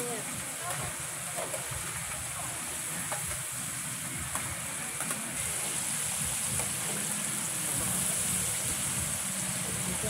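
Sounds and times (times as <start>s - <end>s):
chicken deep-frying in hot oil: 0.0s - 10.0s.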